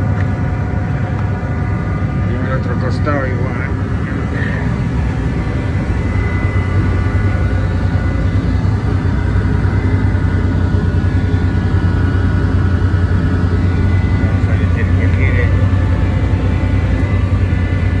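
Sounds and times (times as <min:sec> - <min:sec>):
faint high whine: 0:00.0 - 0:18.0
machinery low drone: 0:00.0 - 0:18.0.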